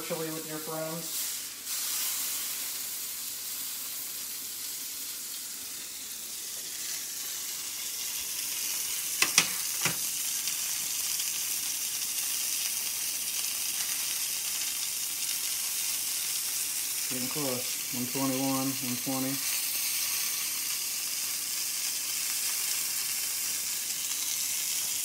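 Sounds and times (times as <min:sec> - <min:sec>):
steak sizzling in a skillet: 0:00.0 - 0:25.0.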